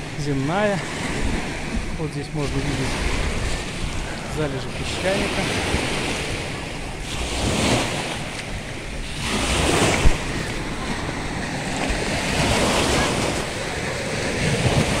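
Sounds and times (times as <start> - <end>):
waves breaking over rocks: 0.0 - 15.0
wind buffeting microphone: 0.0 - 15.0.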